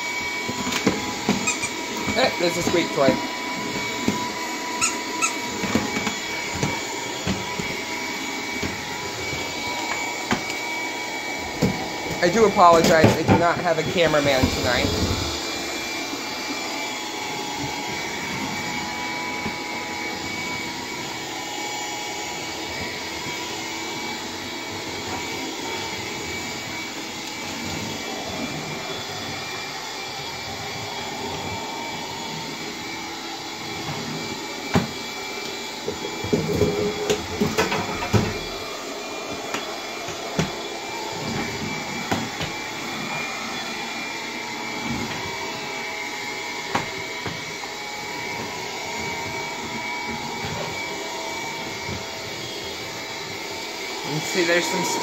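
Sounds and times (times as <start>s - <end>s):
stick vacuum whining: 0.0s - 55.0s.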